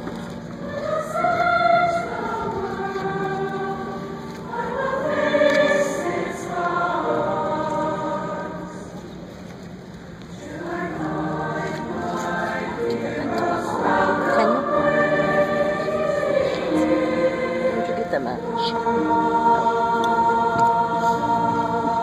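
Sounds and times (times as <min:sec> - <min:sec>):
choir singing in parts: 0:00.0 - 0:09.2, 0:10.3 - 0:22.0.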